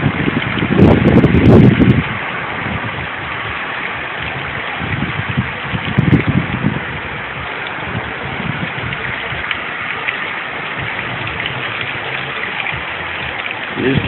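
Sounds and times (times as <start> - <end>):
gusting wind: 0.0 - 14.0
steady rain: 0.0 - 14.0
wind buffeting microphone: 0.0 - 14.0.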